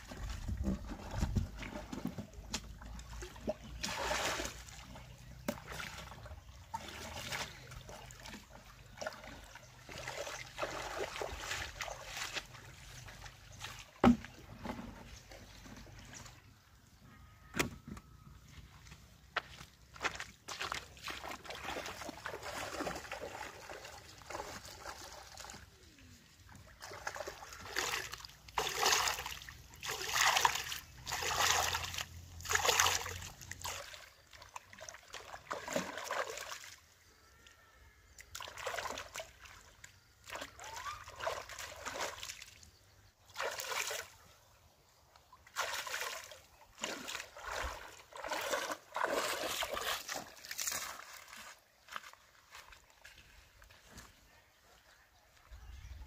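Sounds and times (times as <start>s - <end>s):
flowing water: 0.0s - 16.9s, 18.8s - 56.0s
water splashing and sloshing: 0.0s - 17.0s, 18.4s - 37.1s, 38.1s - 55.9s.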